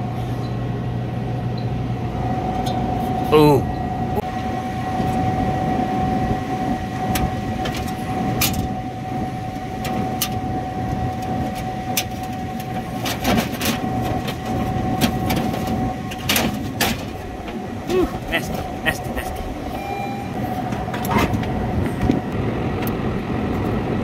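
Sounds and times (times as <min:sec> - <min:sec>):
machinery hum with whine: 0:00.0 - 0:24.0.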